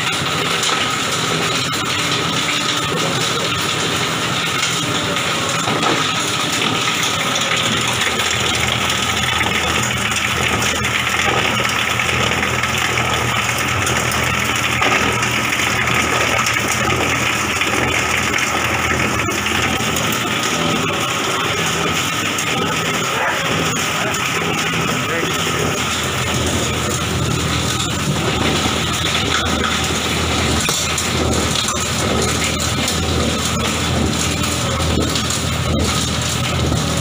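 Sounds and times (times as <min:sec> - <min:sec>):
grinder machine running: 0:00.0 - 0:37.0.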